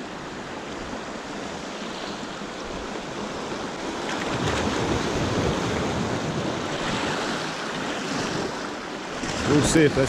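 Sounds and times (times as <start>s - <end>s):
sea surf washing onto shore: 0.0s - 10.0s.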